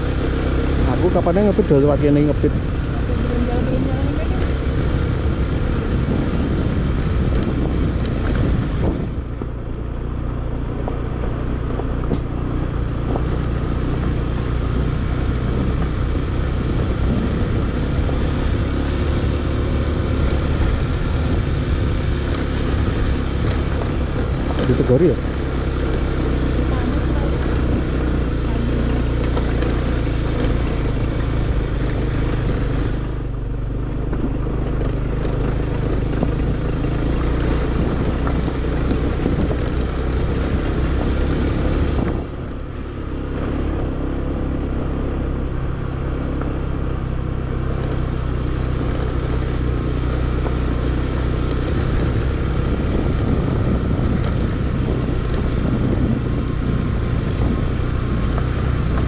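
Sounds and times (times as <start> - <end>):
road and rattle noise: 0.0 - 59.0
scooter engine running: 0.0 - 59.0.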